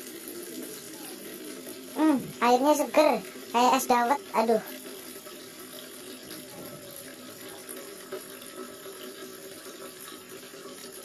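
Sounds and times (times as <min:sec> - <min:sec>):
water running from a hose: 0:00.0 - 0:11.0.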